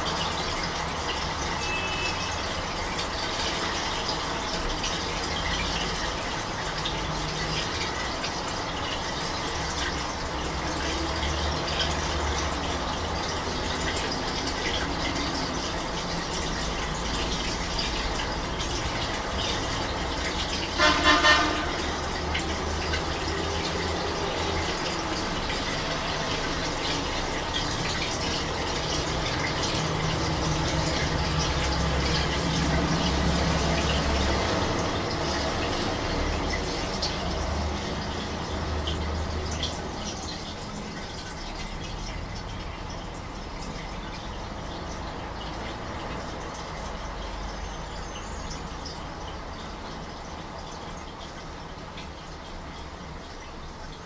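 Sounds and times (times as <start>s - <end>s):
washing machine water noise: 0.0s - 54.0s.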